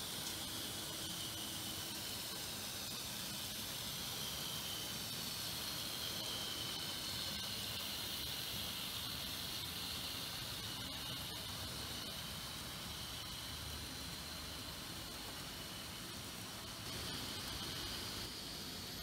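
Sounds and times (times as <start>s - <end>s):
model train motors whining: 0.0s - 19.0s
steady hiss: 0.0s - 19.0s.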